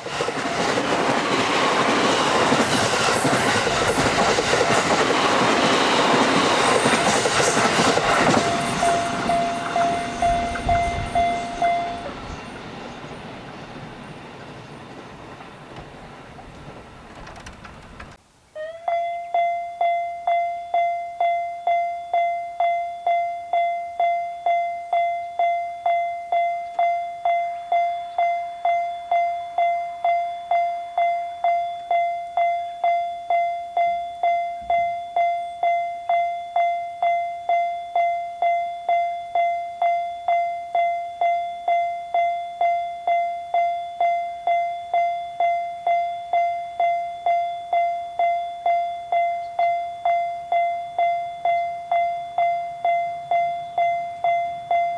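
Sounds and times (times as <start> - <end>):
level crossing warning bell ringing: 0.0 - 18.2, 18.9 - 54.9.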